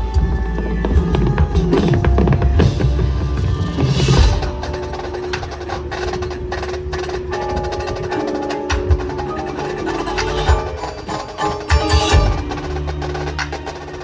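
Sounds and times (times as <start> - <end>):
mallet percussion: 0.0 - 14.0.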